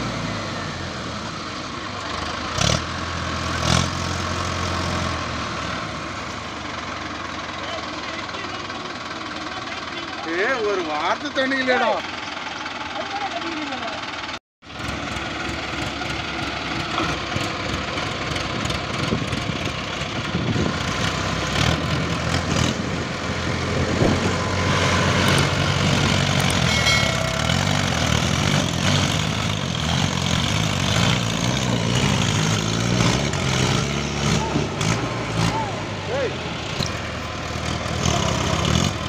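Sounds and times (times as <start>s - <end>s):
tractor diesel engines under load: 0.0s - 39.0s.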